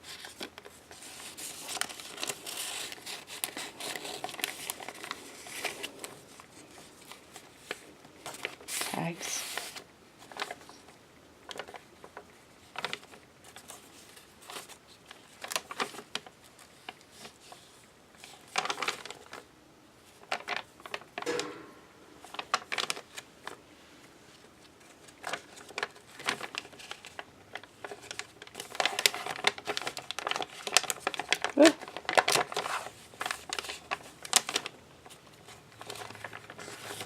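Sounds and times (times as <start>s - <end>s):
paper pages rustling: 0.0s - 10.9s, 11.5s - 19.4s, 20.0s - 21.4s, 22.2s - 23.6s, 24.2s - 37.0s.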